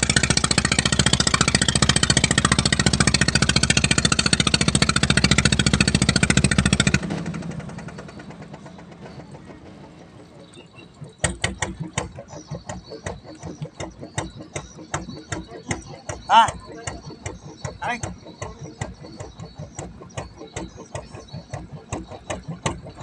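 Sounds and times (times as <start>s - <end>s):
boat engine chugging: 0.0s - 23.0s.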